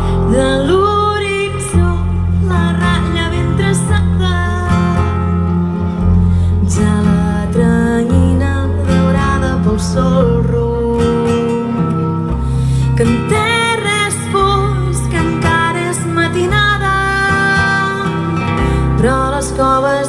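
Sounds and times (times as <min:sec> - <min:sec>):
plucked double bass: 0:00.0 - 0:20.0
strummed acoustic guitar: 0:00.0 - 0:20.0.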